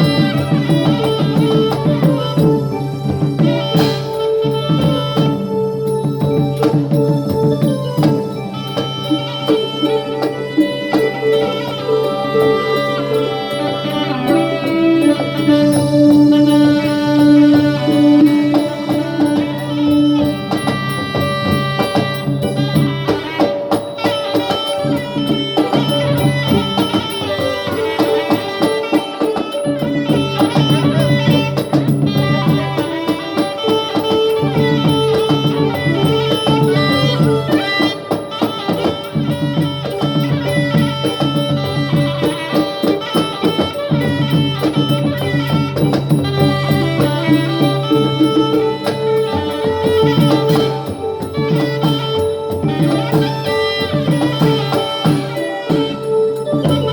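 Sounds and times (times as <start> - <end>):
busy percussion beat: 0.0 - 56.9
traditional ensemble melody: 0.0 - 56.9.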